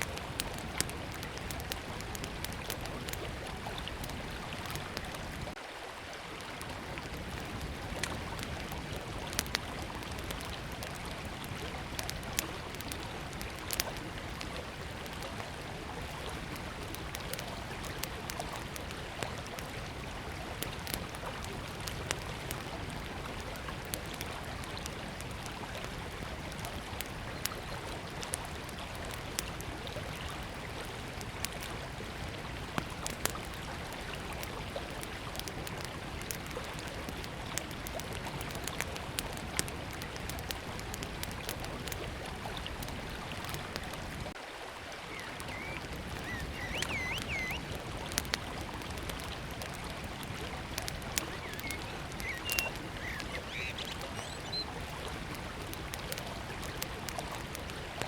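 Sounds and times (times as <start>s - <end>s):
campfire crackling and popping: 0.0s - 5.6s, 6.3s - 58.0s
river flowing: 0.0s - 58.0s.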